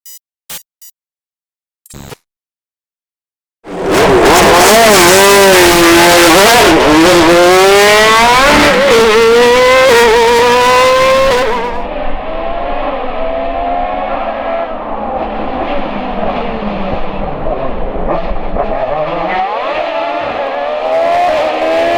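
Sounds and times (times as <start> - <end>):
race car engine at full throttle: 3.6 - 21.9.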